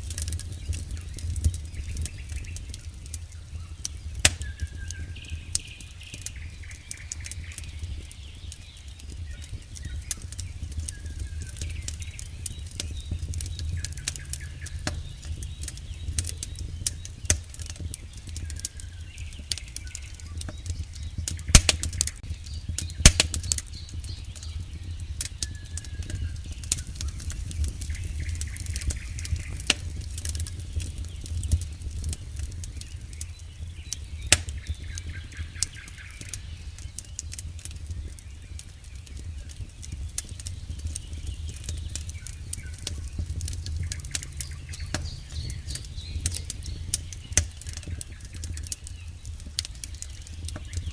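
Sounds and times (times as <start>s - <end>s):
low rumble of flame: 0.0s - 50.9s
wood crackling and popping: 0.0s - 50.9s.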